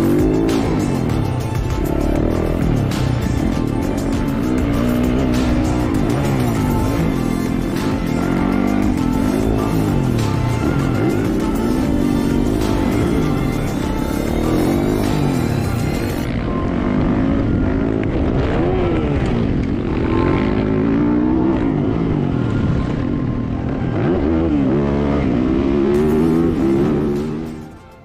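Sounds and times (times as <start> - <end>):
dirt bike engine revving: 0.0 - 23.0, 23.8 - 27.9.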